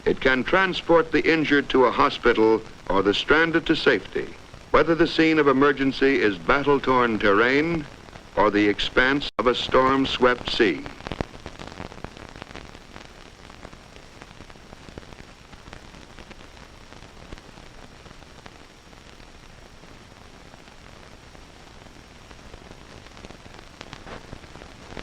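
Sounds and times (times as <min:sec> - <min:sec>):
faint crackles: 0:00.0 - 0:25.0
film soundtrack hiss: 0:00.0 - 0:25.0.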